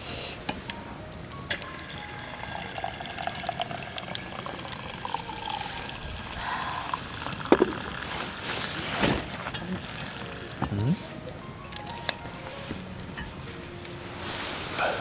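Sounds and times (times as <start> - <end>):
drink pouring into cup: 1.2 - 15.0.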